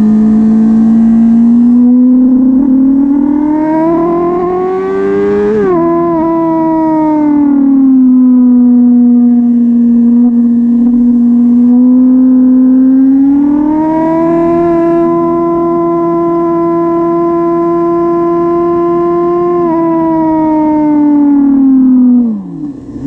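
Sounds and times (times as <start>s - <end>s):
motorcycle engine high revs: 0.0s - 23.0s.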